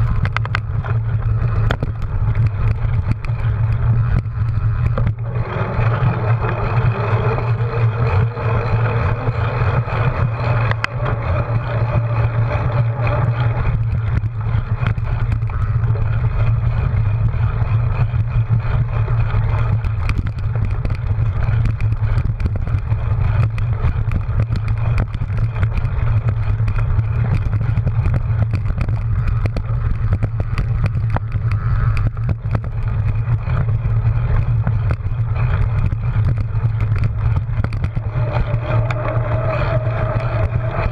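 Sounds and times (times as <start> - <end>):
bike rattles and clicks: 0.0 - 40.9
tyre rumble: 0.0 - 40.9
wind on microphone: 0.0 - 40.9.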